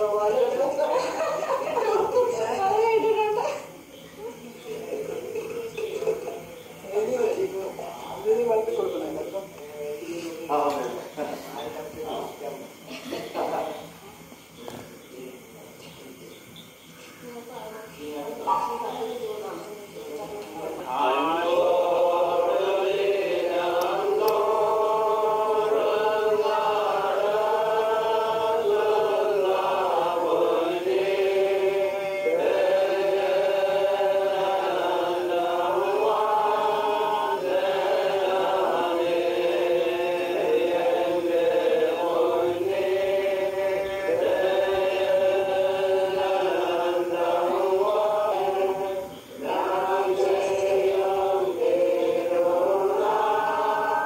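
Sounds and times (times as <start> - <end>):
group singing a slow chant: 0.0 - 54.0.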